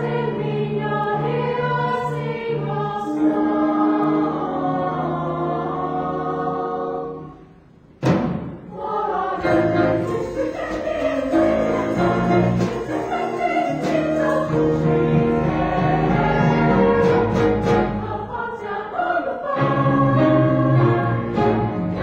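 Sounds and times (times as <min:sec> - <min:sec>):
choir singing: 0:00.0 - 0:07.6, 0:08.6 - 0:22.0
instrumental accompaniment: 0:00.0 - 0:18.8.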